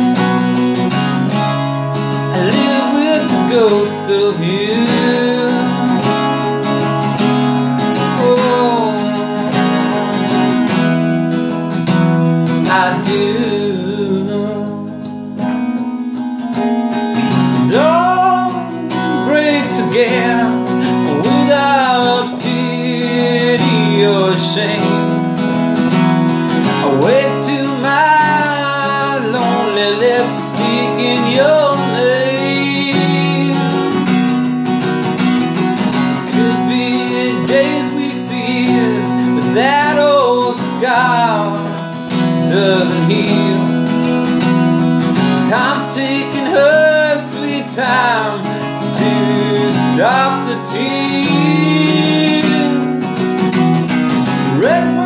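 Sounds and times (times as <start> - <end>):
man singing slow song: 0.0 - 25.6, 26.5 - 34.3, 35.8 - 44.4, 45.1 - 53.4, 54.2 - 55.0
acoustic guitar: 0.0 - 55.0.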